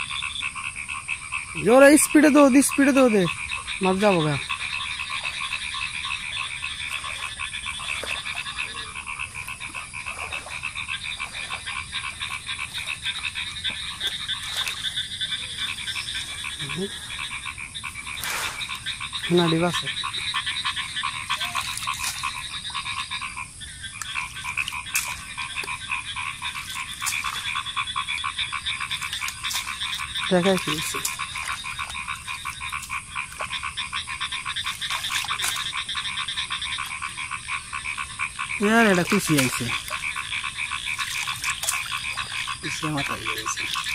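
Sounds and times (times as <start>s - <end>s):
frogs calling with pulsing trills: 0.0s - 43.9s
short low frog calls: 0.0s - 43.9s.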